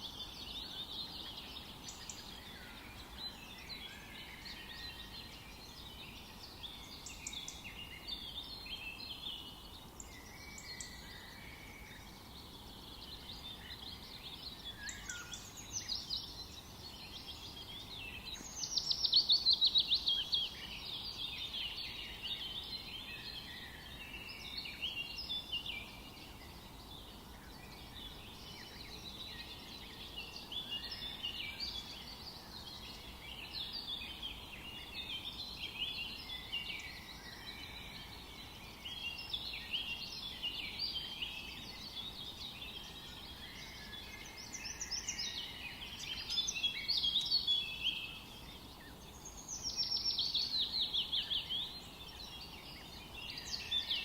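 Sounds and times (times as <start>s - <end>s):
faint steady hiss: 0.0s - 54.0s
songbirds chorus: 0.0s - 54.0s.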